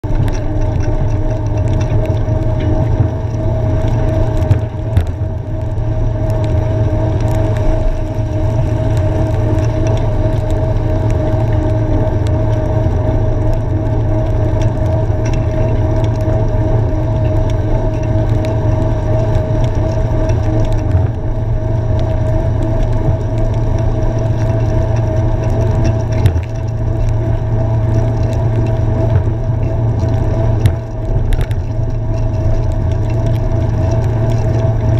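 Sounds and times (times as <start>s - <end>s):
bicycle tyre noise on wet road: 0.0s - 34.9s
wind on microphone: 0.0s - 34.9s.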